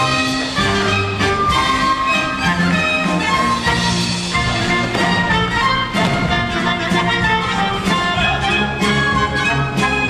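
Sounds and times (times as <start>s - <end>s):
folk dance music with fiddles: 0.0s - 10.0s.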